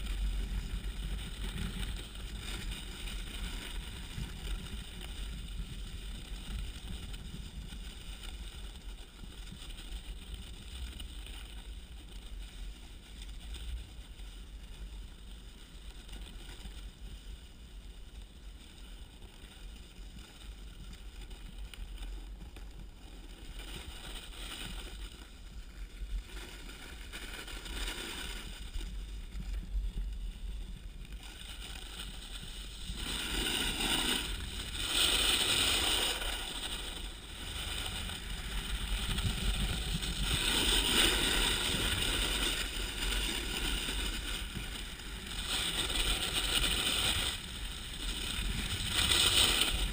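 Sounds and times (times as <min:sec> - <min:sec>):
snowboard edge hissing on snow: 0:00.0 - 0:15.4, 0:22.7 - 0:49.9
wind rumble on microphone: 0:00.0 - 0:49.9.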